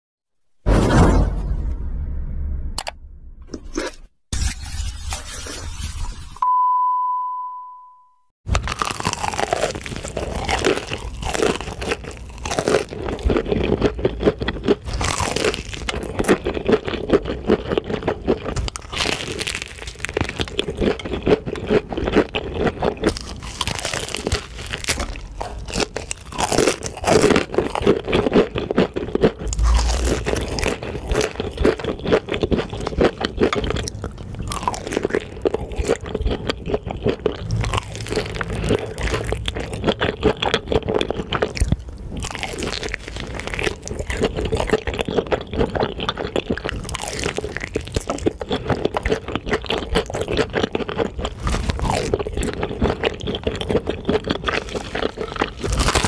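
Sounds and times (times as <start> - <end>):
crunching fried chicken: 8.5 - 56.0.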